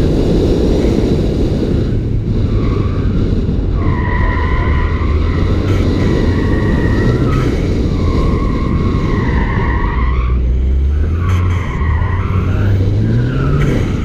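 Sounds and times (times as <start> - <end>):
car engine running hard: 0.0 - 14.0.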